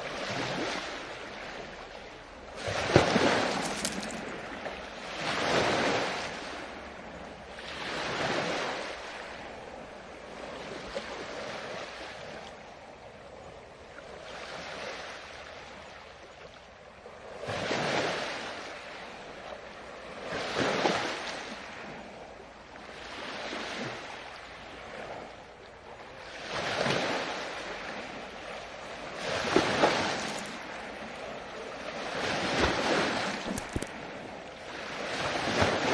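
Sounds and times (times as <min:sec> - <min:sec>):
ocean waves breaking on shore: 0:00.0 - 0:35.9.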